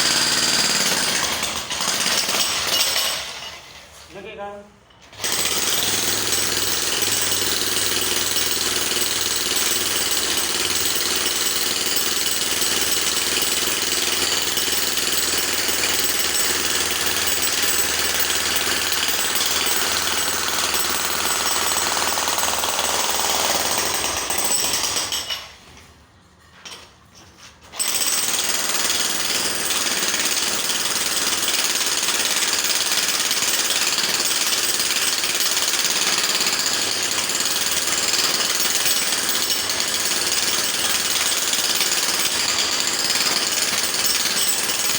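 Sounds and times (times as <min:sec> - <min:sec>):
jackhammer hammering: 0:00.0 - 0:03.5, 0:05.2 - 0:25.5, 0:27.8 - 0:44.9.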